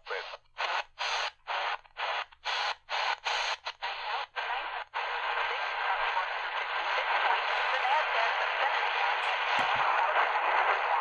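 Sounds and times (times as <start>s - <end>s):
faint radio station: 0.0s - 11.0s
radio static bursts while tuning: 0.0s - 11.0s
steady static hiss: 0.0s - 11.0s.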